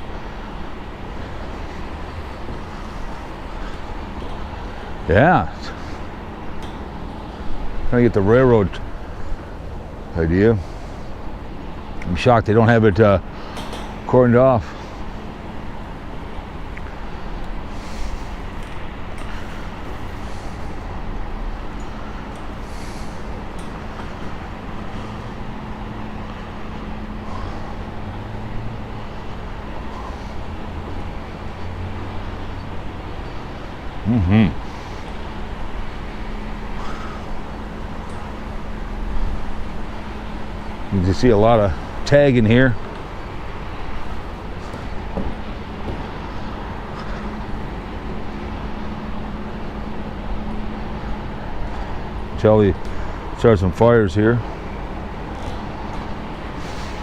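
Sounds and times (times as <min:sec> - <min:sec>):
low even hum: 0:00.0 - 0:57.0
road traffic rumble: 0:00.0 - 0:57.0.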